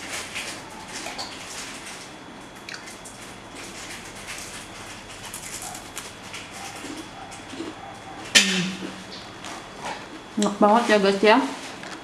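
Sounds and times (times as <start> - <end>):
crunchy cookie chewing: 0.0 - 10.6.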